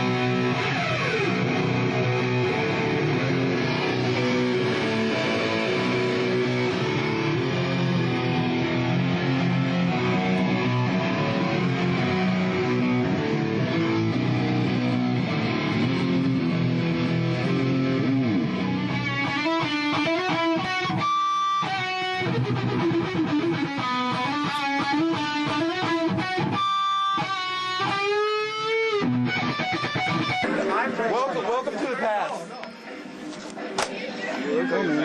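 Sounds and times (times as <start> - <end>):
electric guitar: 0.0 - 30.8.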